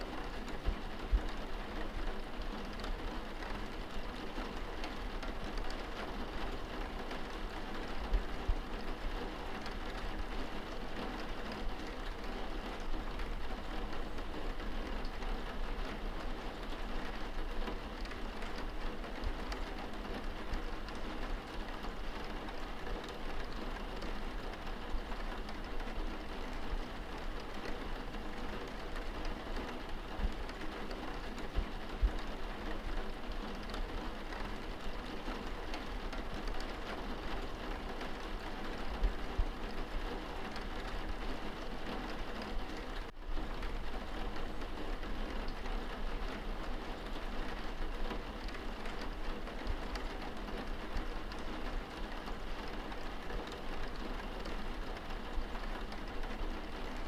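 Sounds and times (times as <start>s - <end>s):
rain on window glass: 0.0s - 57.0s.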